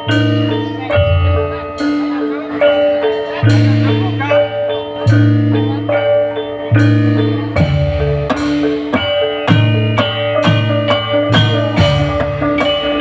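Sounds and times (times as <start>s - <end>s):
gamelan music over sound system: 0.0s - 13.0s.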